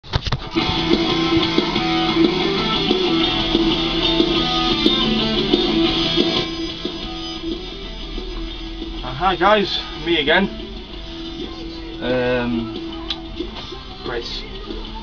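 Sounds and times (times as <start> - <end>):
guitar music: 0.4 - 15.0.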